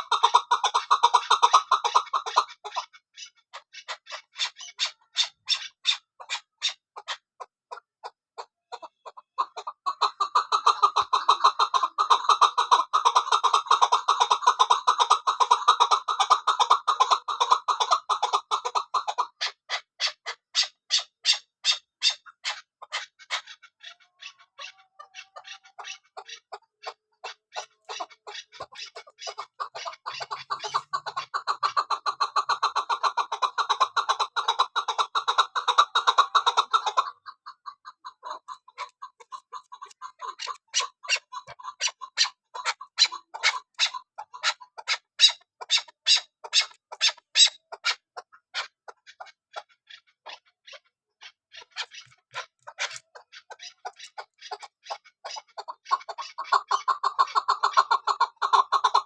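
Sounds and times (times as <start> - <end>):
partridge clucking chatter: 0.0 - 59.0.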